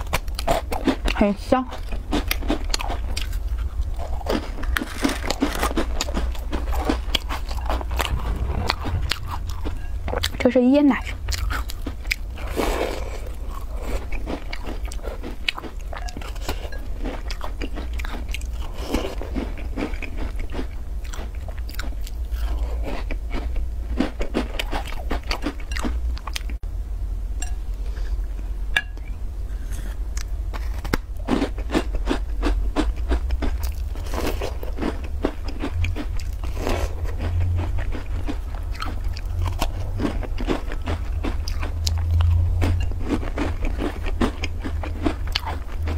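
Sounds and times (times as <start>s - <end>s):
crunching and chewing cookies: 0.0s - 26.6s, 29.6s - 45.9s
steady low hum: 0.0s - 45.9s.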